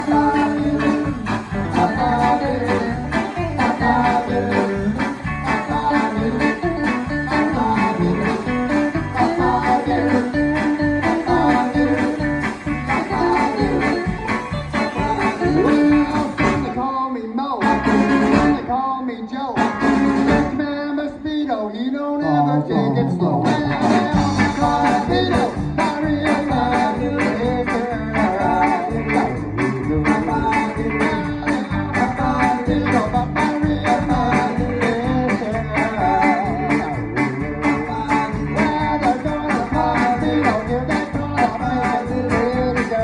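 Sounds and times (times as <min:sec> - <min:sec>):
drums: 0:00.0 - 0:17.0, 0:17.6 - 0:18.8, 0:19.5 - 0:21.6, 0:23.1 - 0:43.0
rock and roll band playing: 0:00.0 - 0:21.7, 0:23.0 - 0:43.0
bass guitar: 0:00.0 - 0:43.0
person singing: 0:00.0 - 0:43.0.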